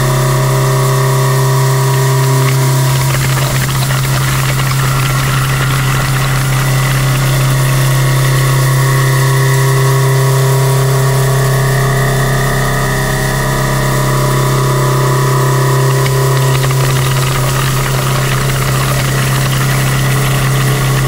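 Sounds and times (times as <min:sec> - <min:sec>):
machining center running: 0:00.0 - 0:21.0.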